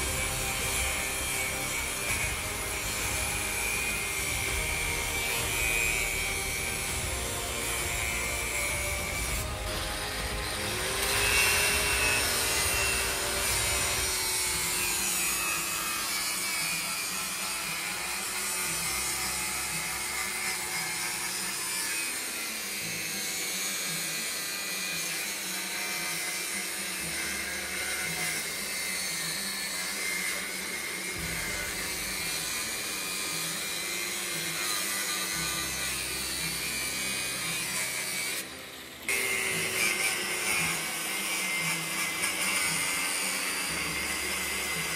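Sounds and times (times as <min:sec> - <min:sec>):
angle grinder cutting steel: 0:00.0 - 0:44.9.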